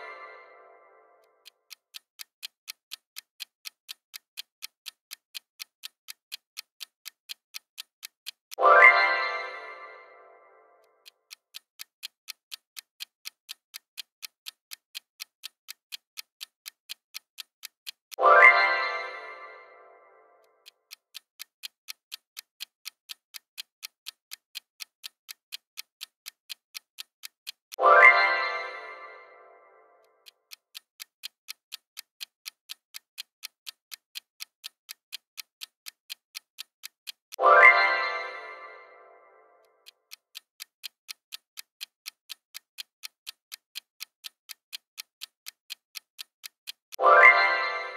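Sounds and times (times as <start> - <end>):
clock ticking: 0.0 - 47.9.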